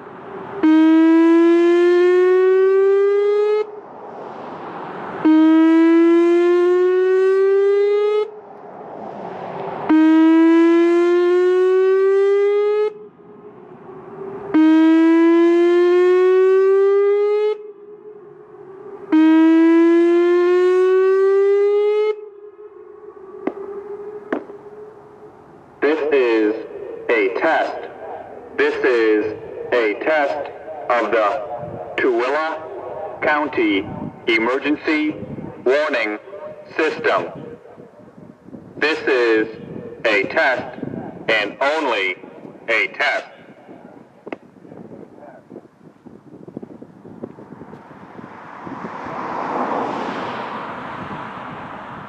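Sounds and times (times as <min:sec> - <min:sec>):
warning siren whooping: 0:00.0 - 0:52.0.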